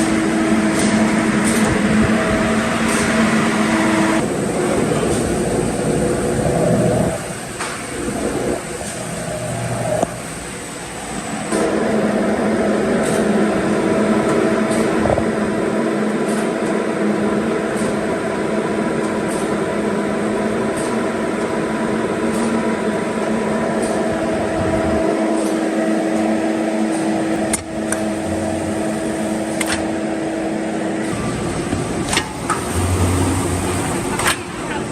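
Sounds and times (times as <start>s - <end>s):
machine humming: 0.0s - 34.9s.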